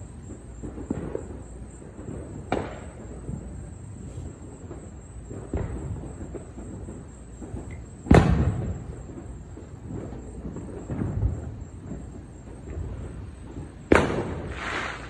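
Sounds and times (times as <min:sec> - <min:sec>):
faint firework thumps: 0:00.0 - 0:15.0
firework boom: 0:01.9 - 0:13.0, 0:13.6 - 0:15.0.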